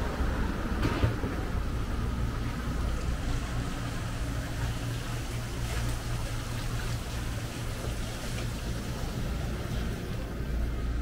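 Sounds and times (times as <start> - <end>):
low engine hum: 0.0 - 11.0
outdoor hiss: 0.0 - 11.0.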